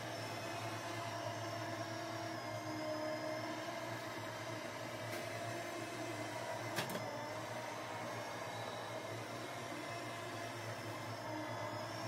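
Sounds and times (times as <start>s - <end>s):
robot vacuum motor whir: 0.0s - 12.0s.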